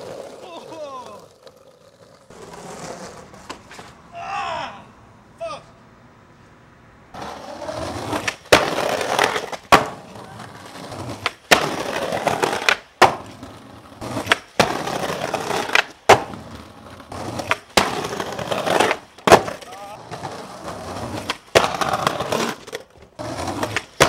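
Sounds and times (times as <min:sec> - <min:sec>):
skateboard tail clacks: 0:00.0 - 0:04.0, 0:07.2 - 0:24.0
skateboard wheels rolling on pavement: 0:00.0 - 0:24.0.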